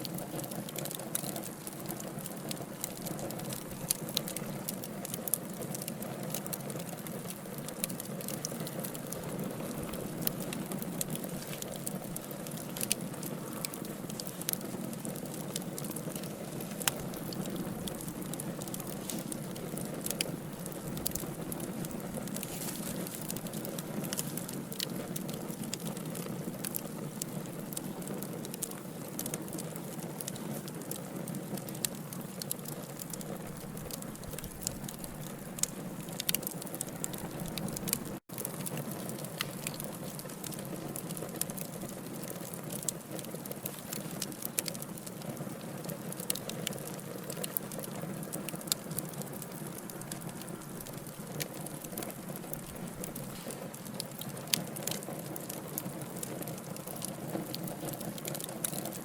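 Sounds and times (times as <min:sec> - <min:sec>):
logs burning with crackles: 0:00.0 - 0:59.0.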